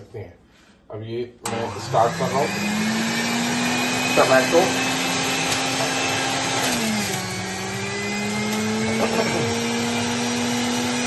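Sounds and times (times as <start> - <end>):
electric juicer motor humming: 1.5 - 11.0.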